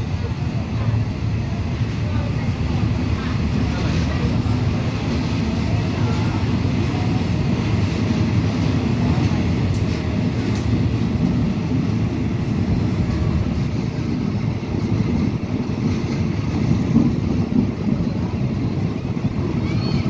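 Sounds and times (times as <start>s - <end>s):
train low rumble: 0.0s - 20.0s
wind buffeting microphone: 0.0s - 20.0s.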